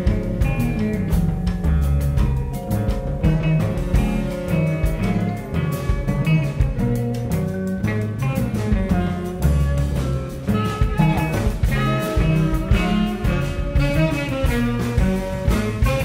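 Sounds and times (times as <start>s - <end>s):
bass line: 0.0s - 16.0s
drum hits: 0.0s - 16.0s
saxophones playing jazz: 3.1s - 16.0s.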